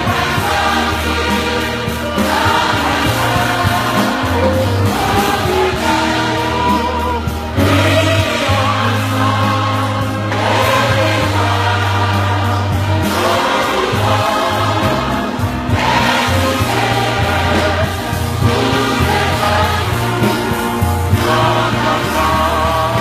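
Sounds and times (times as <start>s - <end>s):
choir singing gospel: 0.0s - 23.0s.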